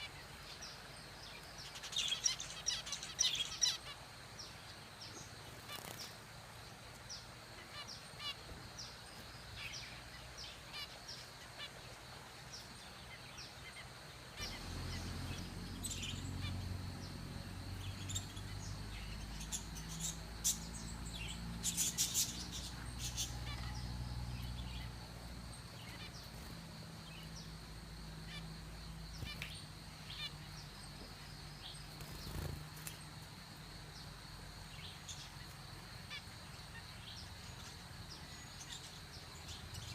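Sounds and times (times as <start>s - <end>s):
finches chirping: 0.0s - 6.2s, 6.8s - 33.2s.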